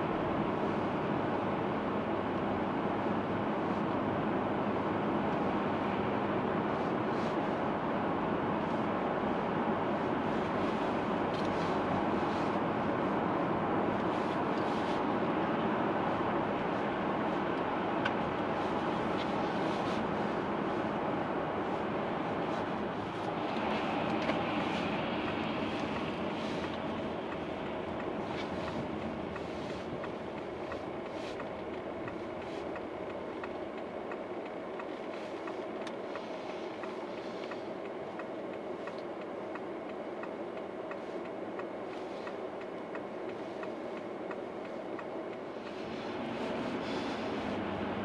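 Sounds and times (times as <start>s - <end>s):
car road and tyre noise: 0.0s - 48.0s.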